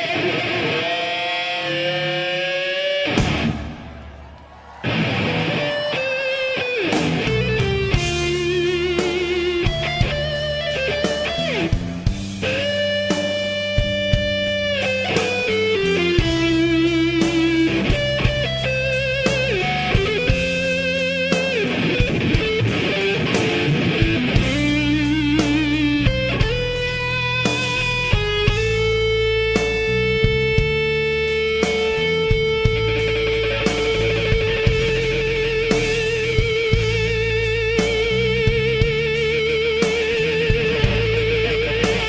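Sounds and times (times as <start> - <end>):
electric lead guitar melody: 0.0 - 4.0, 4.8 - 42.0
bass: 3.1 - 4.2, 6.7 - 42.0
steady drum beat: 6.6 - 42.0.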